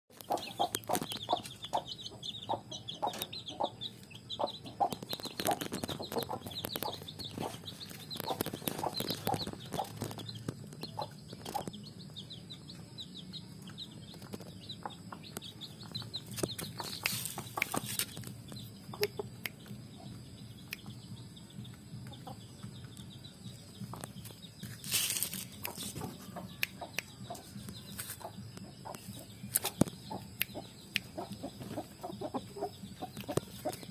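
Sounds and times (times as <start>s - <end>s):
chickens clucking: 0.1s - 33.9s
high chirps: 0.2s - 33.9s.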